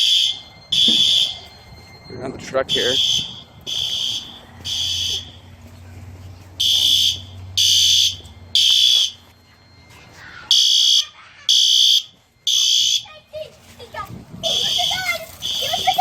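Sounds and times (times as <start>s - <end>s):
fire alarm blasts: 0.0s - 5.7s, 6.3s - 16.0s.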